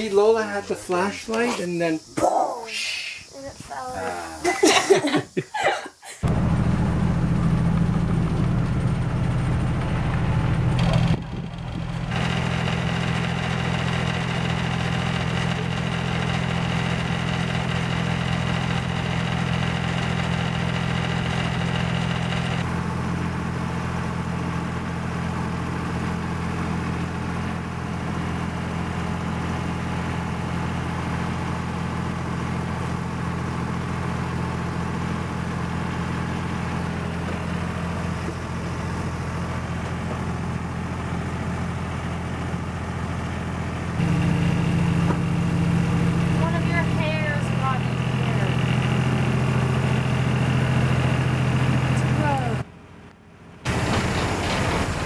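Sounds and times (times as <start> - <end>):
boat engine humming: 6.2 - 52.9.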